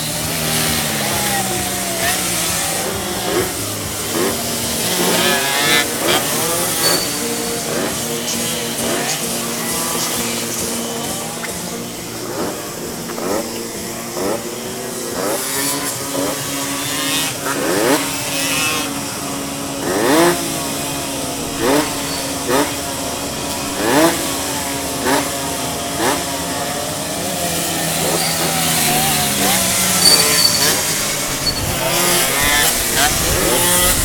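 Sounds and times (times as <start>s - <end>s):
car engines revving: 0.0s - 34.0s
steady engine drone: 0.0s - 34.0s.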